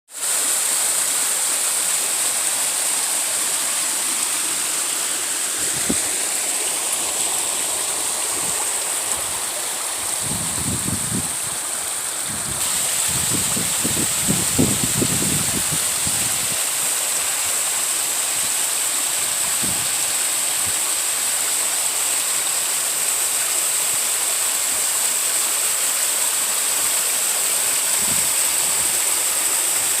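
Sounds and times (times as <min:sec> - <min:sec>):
waterfall roaring: 0:00.2 - 0:30.0.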